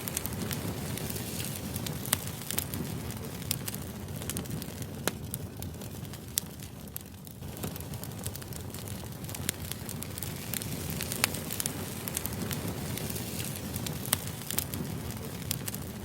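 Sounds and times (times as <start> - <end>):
fire rushing: 0.0 - 16.0
logs crackling and popping: 0.0 - 16.0.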